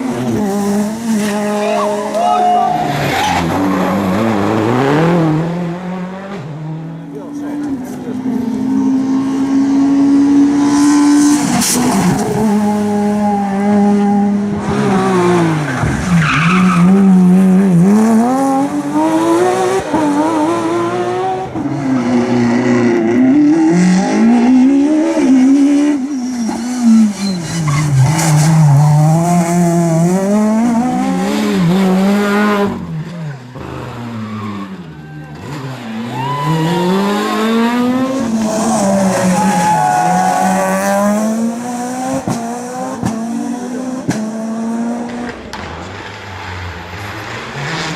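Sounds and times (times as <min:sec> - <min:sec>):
rally car engines revving: 0:00.0 - 0:47.9.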